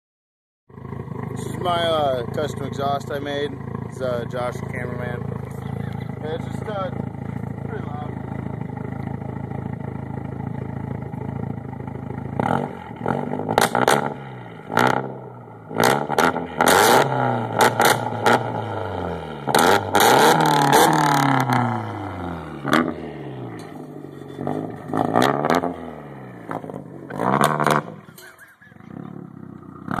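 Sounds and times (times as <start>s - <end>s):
car engine idling and revving: 0.7s - 30.0s.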